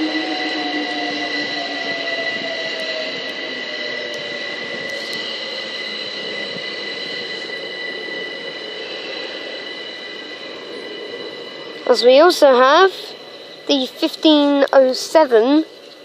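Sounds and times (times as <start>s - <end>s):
steady high whine: 0.0s - 16.0s
train motor whine: 0.0s - 16.0s
wheel and rail rumble: 0.0s - 16.0s.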